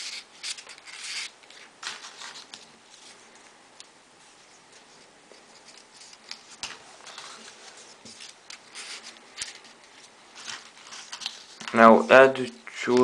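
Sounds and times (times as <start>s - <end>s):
paper rustling and scraping: 0.0s - 3.3s, 4.3s - 12.0s.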